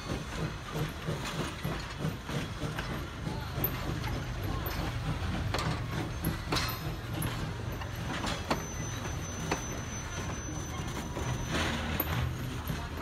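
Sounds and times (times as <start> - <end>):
train wheels rumbling on rail: 0.0 - 13.0
wheels clacking on rail joints: 0.0 - 13.0.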